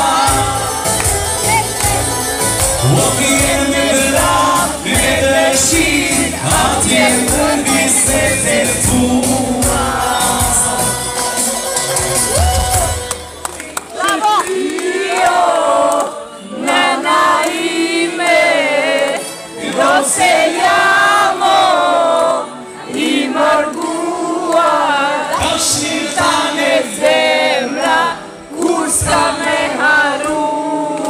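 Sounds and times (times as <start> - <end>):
crowd voices: 0.0 - 30.8
live singing with music: 0.0 - 31.0.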